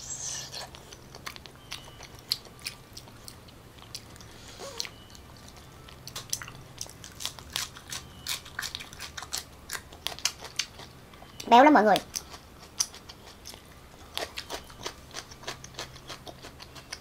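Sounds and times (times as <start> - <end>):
lettuce crunching: 0.1 - 17.0
person chewing with wet clicks: 0.1 - 17.0.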